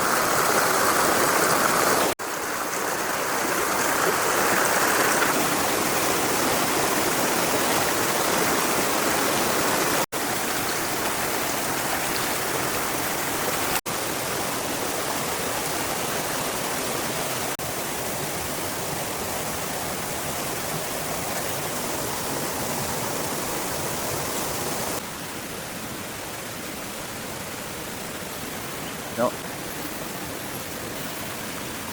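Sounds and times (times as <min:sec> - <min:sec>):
water rushing: 0:00.0 - 0:31.9.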